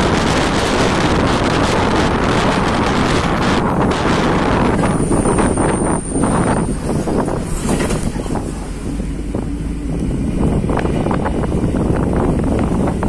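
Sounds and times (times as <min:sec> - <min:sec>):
bus rumble: 0:00.0 - 0:13.0
wind buffeting microphone: 0:00.0 - 0:13.0.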